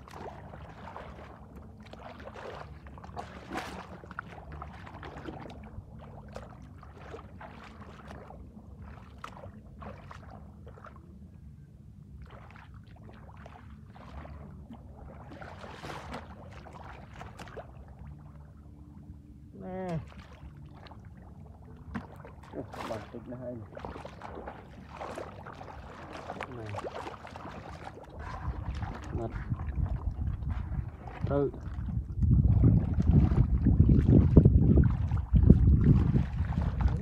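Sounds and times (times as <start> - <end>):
muddy water splashing: 0.0 - 11.3, 12.0 - 37.0
low rumble: 0.0 - 37.0.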